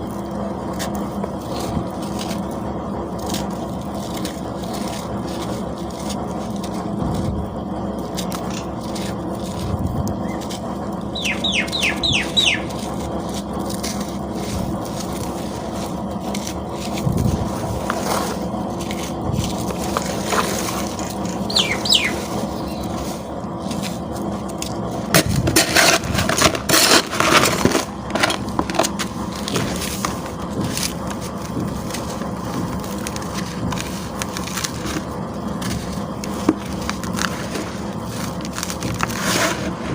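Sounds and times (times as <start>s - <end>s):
cement chunks crunching: 0.0s - 39.9s
faint steady hum: 0.0s - 39.9s.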